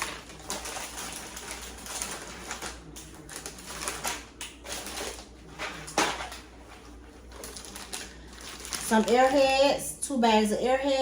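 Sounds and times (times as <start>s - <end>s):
plastic packaging crackling: 0.0s - 9.7s.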